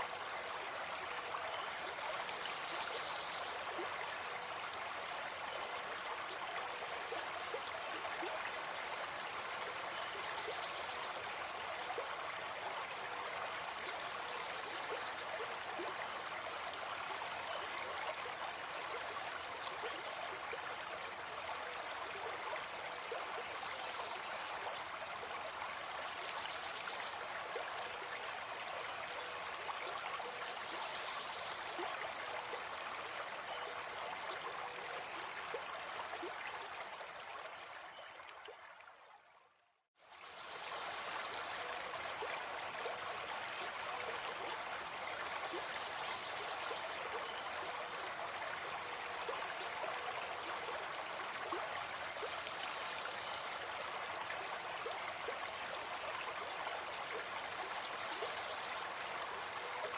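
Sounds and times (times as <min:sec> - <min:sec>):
forest stream flowing: 0:00.0 - 0:59.9.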